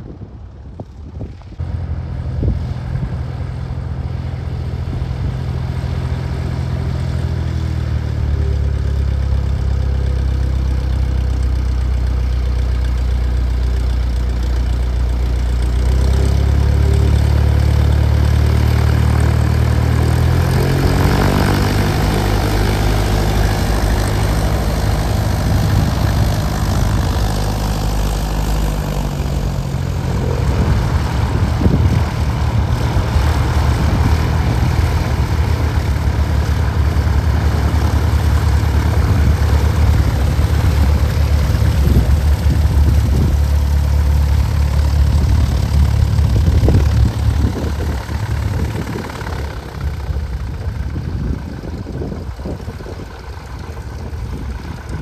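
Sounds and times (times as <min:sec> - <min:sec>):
propeller engine drone: 0:00.0 - 0:55.0.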